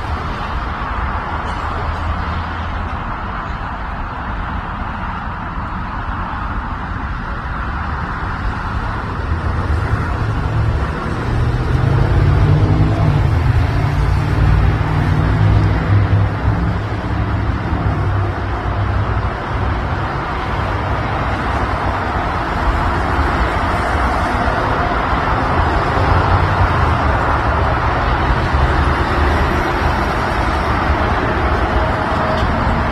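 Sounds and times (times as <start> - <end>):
road noise: 0.0 - 32.9.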